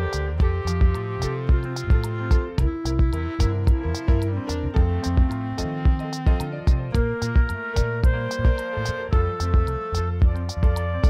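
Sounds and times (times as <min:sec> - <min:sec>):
background music with beat and strings: 0:00.0 - 0:11.0.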